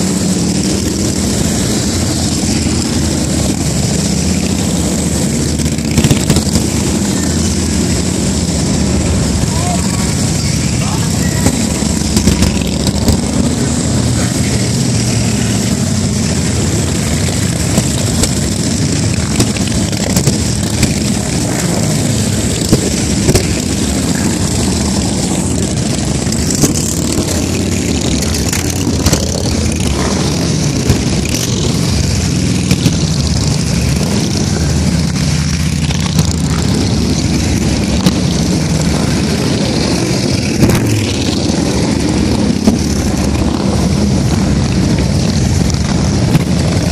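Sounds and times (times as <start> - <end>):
motorcycles riding past: 0.0 - 46.9.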